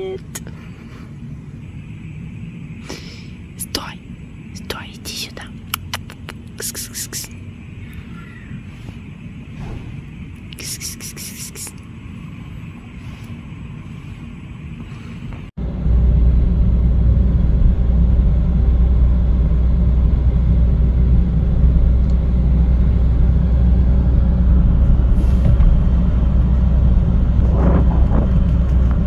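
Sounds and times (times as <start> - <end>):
car road rumble: 0.0 - 29.0.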